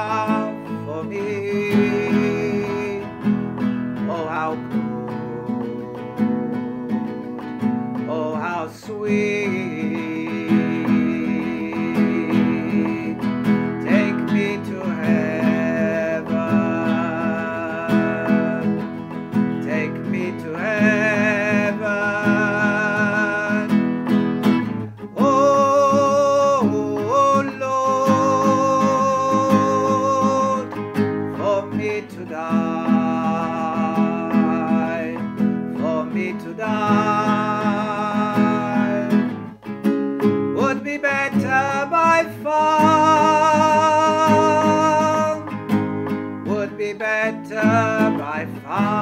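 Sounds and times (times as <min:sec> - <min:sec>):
acoustic guitar strumming: 0:00.0 - 0:49.0
person singing with vibrato: 0:00.0 - 0:49.0.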